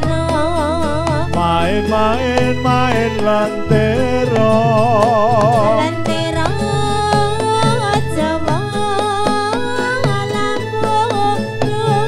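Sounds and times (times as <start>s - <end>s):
bass line: 0.0s - 12.0s
person singing with vibrato: 0.0s - 12.0s
drum strokes: 1.0s - 11.9s.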